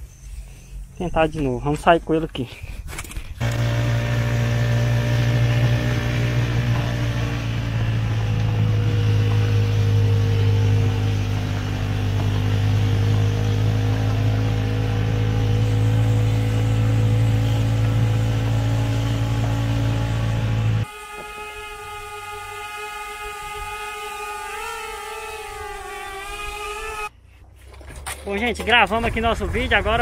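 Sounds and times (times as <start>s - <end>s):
buggy engine humming: 3.4s - 30.0s.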